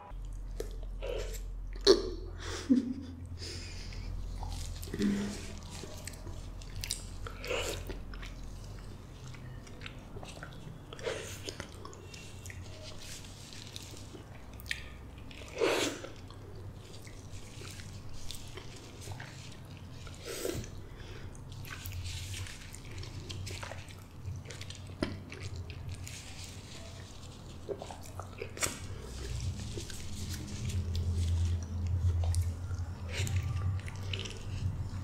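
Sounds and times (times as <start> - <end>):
chewing: 0.1 - 2.3, 3.2 - 35.0.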